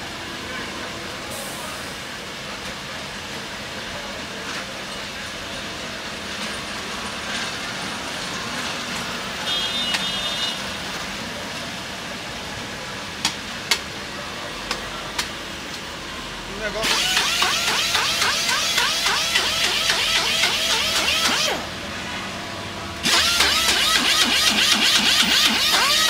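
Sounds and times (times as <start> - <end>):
market background noise: 0.0 - 26.0.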